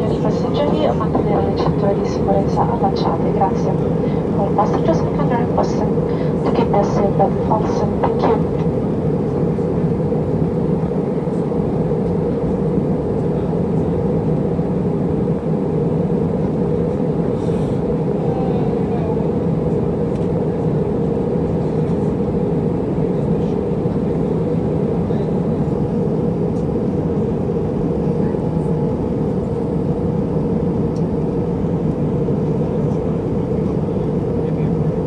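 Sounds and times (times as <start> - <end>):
airplane cabin drone: 0.0 - 35.0.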